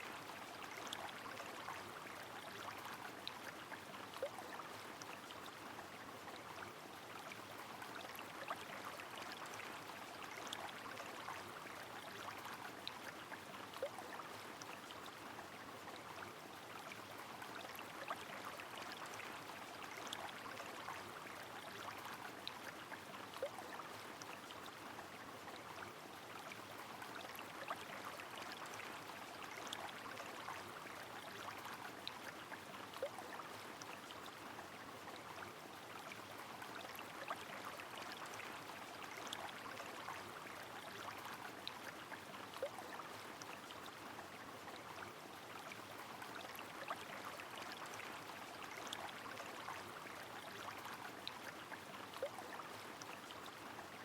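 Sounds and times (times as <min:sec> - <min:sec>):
rain: 0:00.0 - 0:54.0
river flowing: 0:00.0 - 0:54.0.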